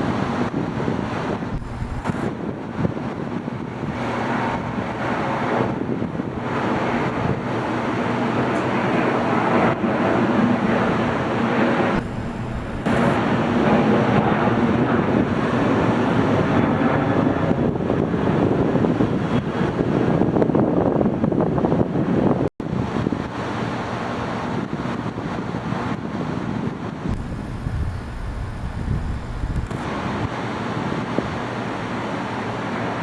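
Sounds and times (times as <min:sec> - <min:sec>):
distant jet engines: 0:00.0 - 0:20.4, 0:21.8 - 0:33.0.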